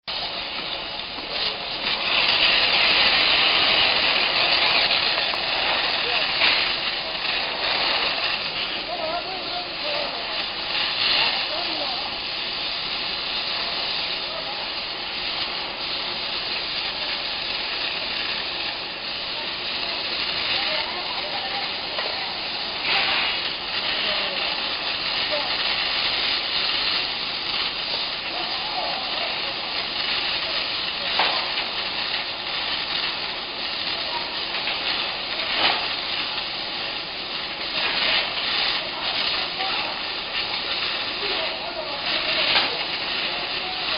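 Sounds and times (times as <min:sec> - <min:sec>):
gas flame hissing: 0:00.0 - 0:43.9.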